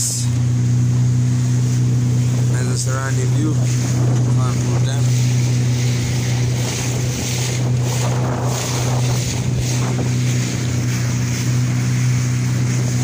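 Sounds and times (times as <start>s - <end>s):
motorboat engine humming: 0.0s - 13.0s
water noise from hull: 0.0s - 13.0s
wind rushing over microphone: 0.9s - 13.0s.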